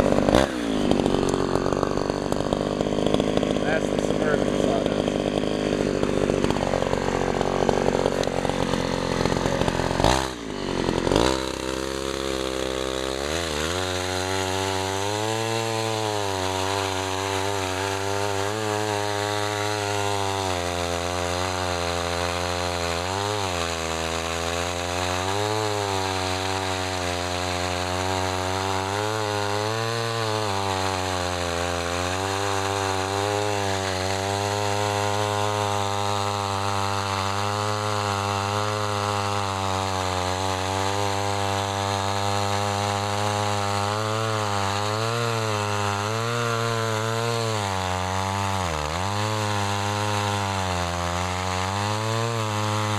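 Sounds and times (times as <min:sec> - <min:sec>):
chainsaw running: 0:00.0 - 0:52.9.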